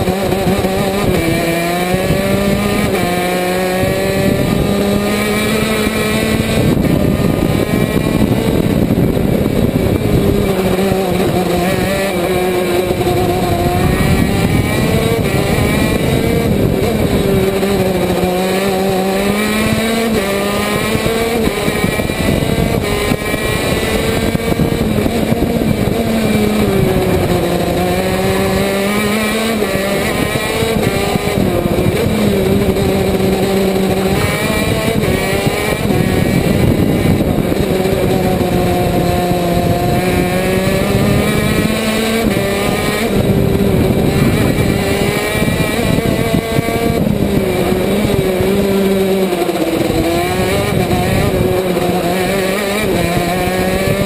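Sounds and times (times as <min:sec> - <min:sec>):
kart two-stroke engine racing: 0:00.0 - 0:54.0.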